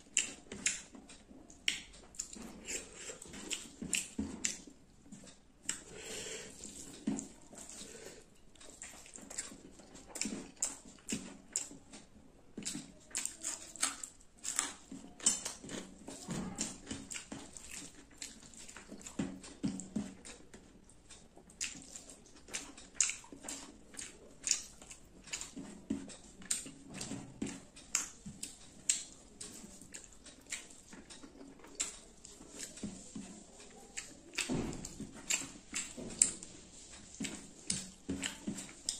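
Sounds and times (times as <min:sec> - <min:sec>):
wet chewing and lip-smacking: 0:00.0 - 0:38.9.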